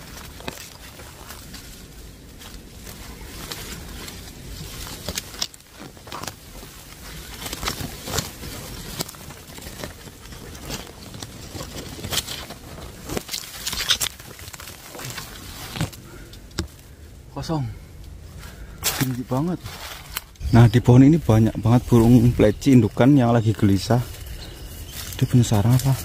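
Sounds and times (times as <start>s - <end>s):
twigs snapping: 0.0s - 16.9s, 18.0s - 26.0s
leaves and twigs rustling: 0.0s - 26.0s.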